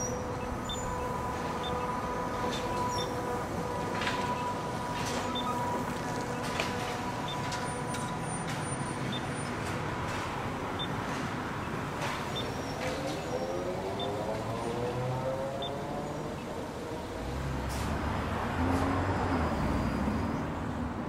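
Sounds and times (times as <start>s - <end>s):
street traffic: 0.0s - 21.0s
trolleybus electric whine: 0.0s - 21.0s.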